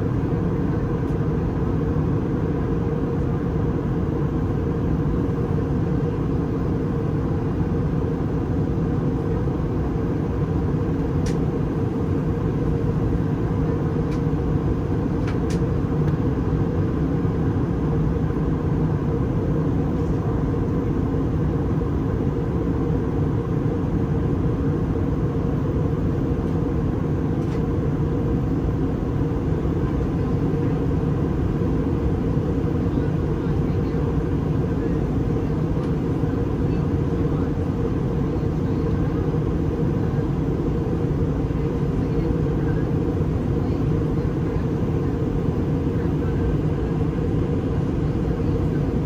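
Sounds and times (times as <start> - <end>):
airplane cabin rumble: 0.0 - 49.0.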